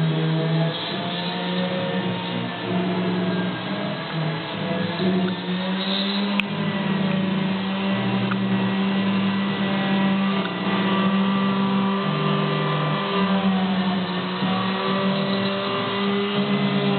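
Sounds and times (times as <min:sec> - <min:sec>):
cnc router motors whining: 0:00.0 - 0:16.9.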